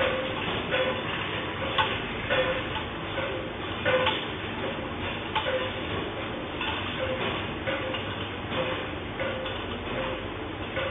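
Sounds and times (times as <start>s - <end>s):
metal and dishes clattering: 0.0s - 5.9s, 6.6s - 10.9s.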